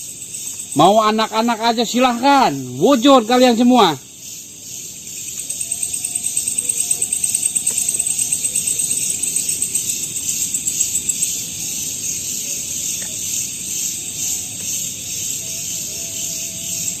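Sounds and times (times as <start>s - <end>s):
night insects chirping: 0.0s - 17.0s
steady high hiss: 0.0s - 17.0s.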